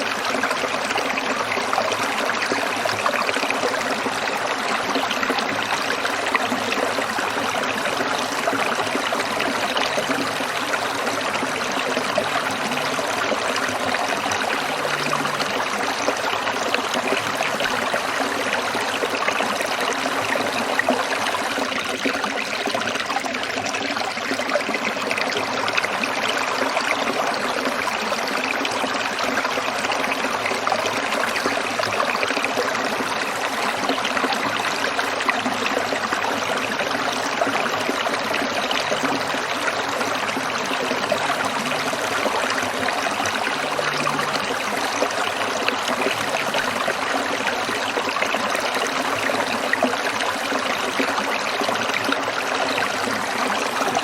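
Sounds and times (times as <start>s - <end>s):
stream trickling over stones: 0.0s - 54.0s.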